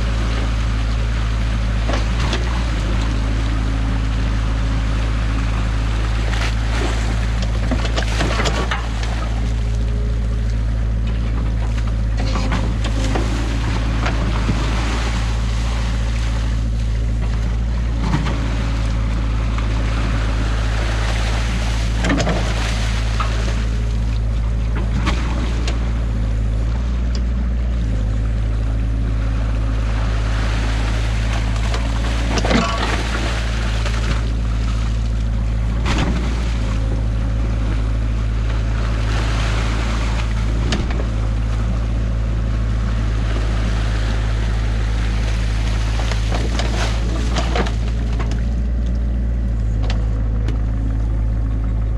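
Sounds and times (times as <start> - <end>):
excavator diesel engine running: 0.0 - 51.9
water rushing and splashing: 0.0 - 51.9.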